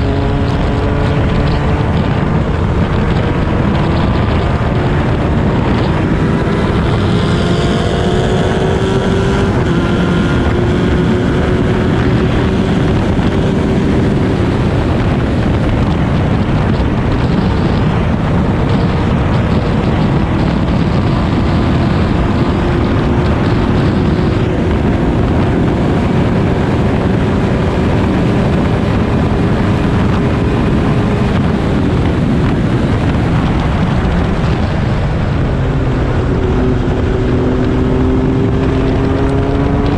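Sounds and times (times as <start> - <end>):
racing car engine: 0.0 - 39.9
wind buffeting microphone: 0.0 - 39.9.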